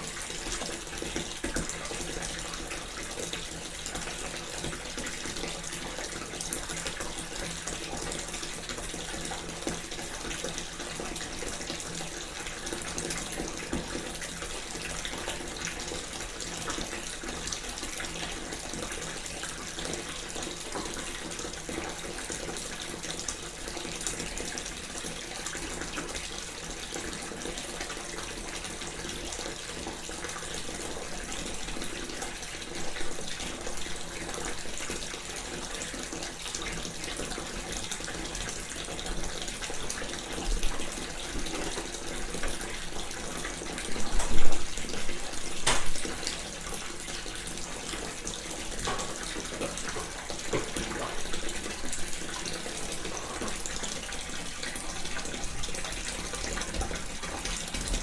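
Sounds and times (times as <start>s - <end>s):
tap water filling a bath: 0.0s - 58.0s.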